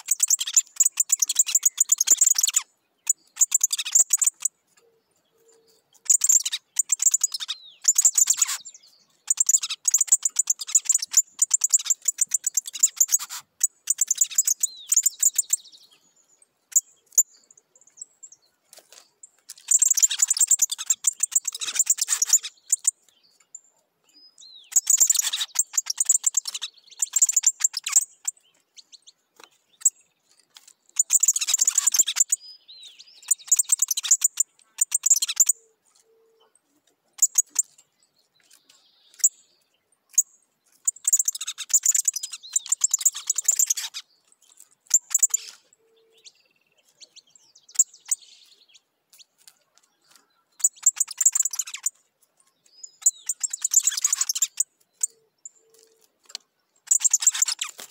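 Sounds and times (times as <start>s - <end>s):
songbird singing rapid high notes: 0.0s - 4.5s, 6.0s - 18.5s, 19.5s - 23.4s, 24.2s - 30.1s, 30.9s - 35.7s, 38.4s - 44.3s, 44.9s - 48.9s, 50.0s - 57.9s.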